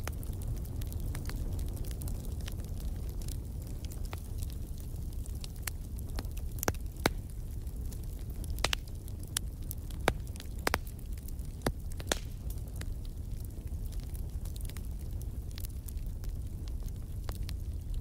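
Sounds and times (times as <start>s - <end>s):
fire crackling and popping: 0.0s - 18.0s
low rumble of fire flames: 0.0s - 18.0s.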